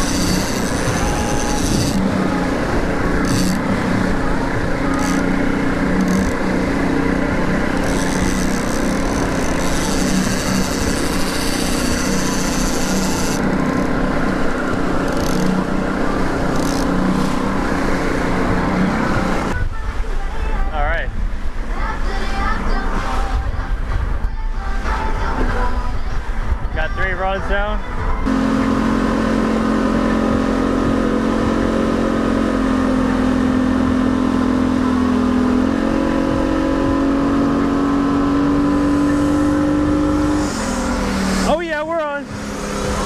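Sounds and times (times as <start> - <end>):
outboard motor running: 0.0 - 43.0
water rushing in wake: 0.0 - 43.0.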